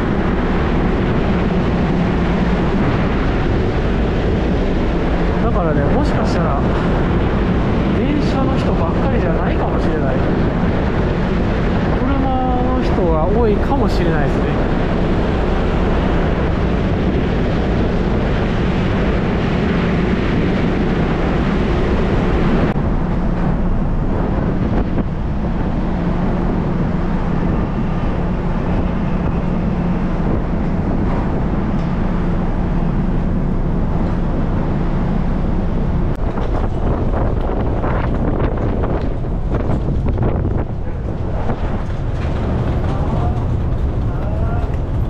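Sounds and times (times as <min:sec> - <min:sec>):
ferry engines droning: 0:00.0 - 0:45.0
wind buffeting microphone: 0:00.0 - 0:45.0.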